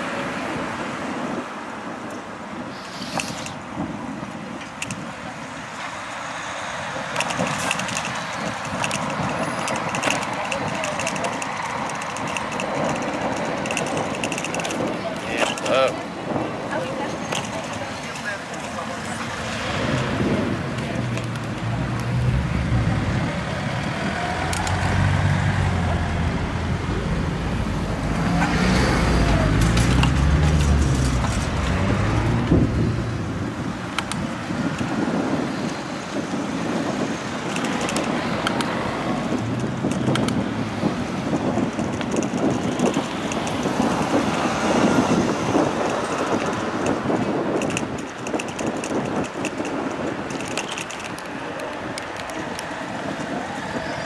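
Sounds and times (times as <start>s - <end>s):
passing traffic rumble: 0.0s - 54.0s.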